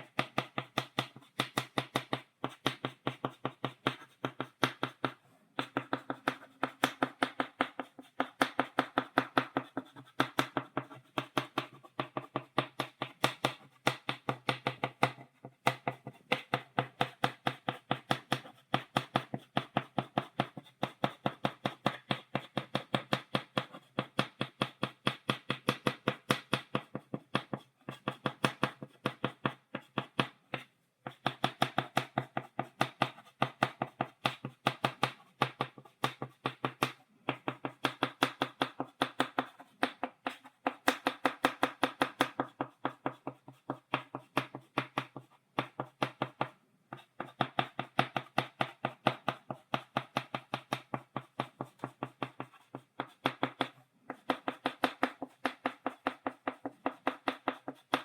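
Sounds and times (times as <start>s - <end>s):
chalk tapping on blackboard: 0.0s - 58.0s.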